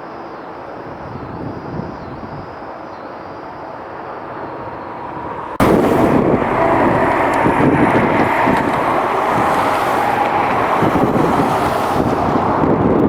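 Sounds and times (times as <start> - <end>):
wind buffeting microphone: 0.6 - 13.0
jet engines roaring: 0.9 - 13.0.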